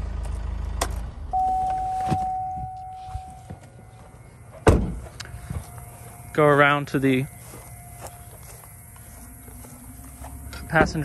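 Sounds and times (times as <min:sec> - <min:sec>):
diesel engine idling: 0:00.0 - 0:11.0
warning chime: 0:01.3 - 0:11.0.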